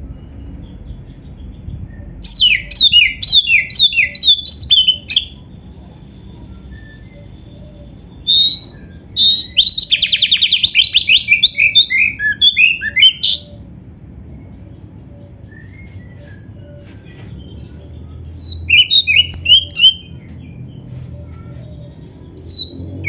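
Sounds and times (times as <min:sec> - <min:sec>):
bird singing varied phrases: 0:00.0 - 0:05.5, 0:06.6 - 0:20.9, 0:21.8 - 0:23.0.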